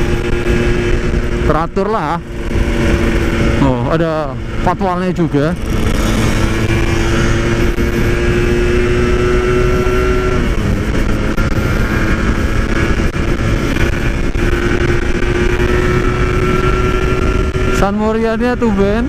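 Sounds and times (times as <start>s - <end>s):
two-stroke motorcycle engine: 0.0s - 19.0s.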